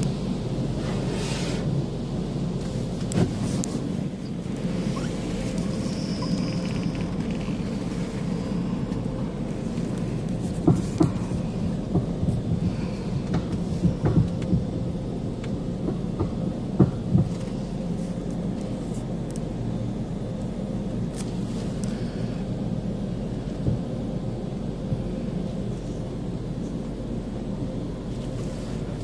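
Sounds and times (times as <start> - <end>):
car wash rumble and hum: 0.0 - 29.0.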